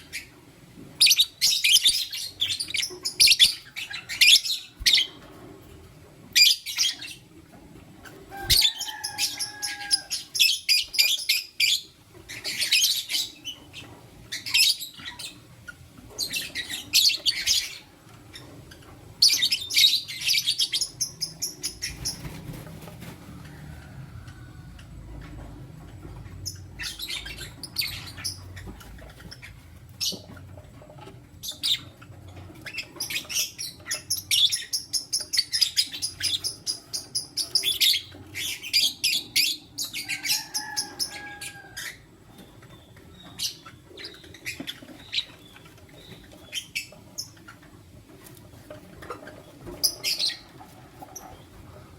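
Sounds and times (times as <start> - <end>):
lovebirds chirping: 1.0 - 5.4, 6.3 - 7.3, 8.0 - 22.6, 26.1 - 30.5, 31.4 - 47.8, 49.0 - 51.9.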